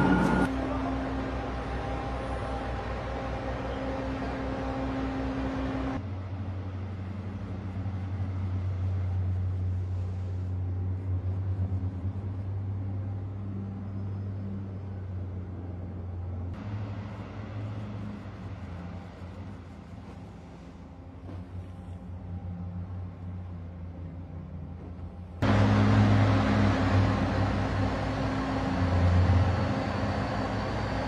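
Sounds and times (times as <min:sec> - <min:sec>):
heavy vehicle engines droning: 0:00.0 - 0:31.0.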